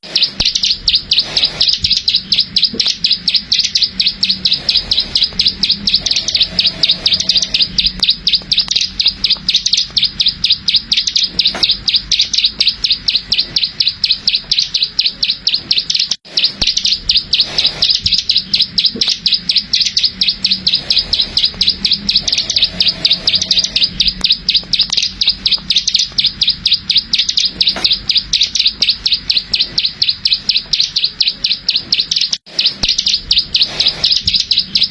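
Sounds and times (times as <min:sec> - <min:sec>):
bird singing rapid clicking song: 0:00.0 - 0:34.9.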